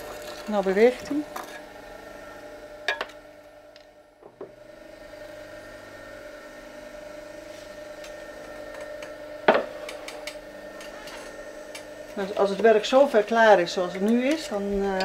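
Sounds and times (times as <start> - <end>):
potter's wheel motor humming: 0.0 - 15.0.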